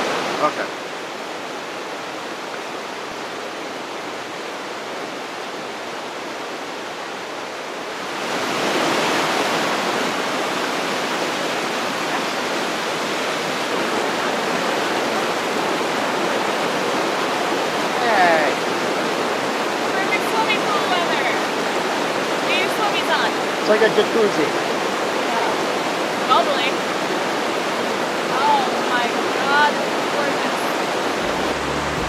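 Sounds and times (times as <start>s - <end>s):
river rushing over rocks: 0.0s - 32.0s.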